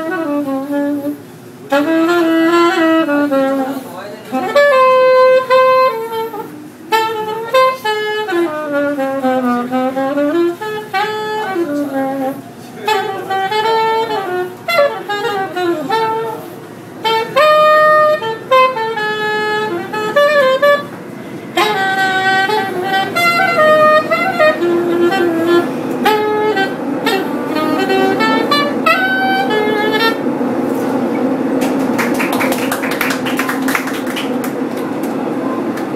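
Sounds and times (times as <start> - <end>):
soprano saxophone playing jazz: 0.0 - 35.9
subway car rumbling: 0.0 - 35.9.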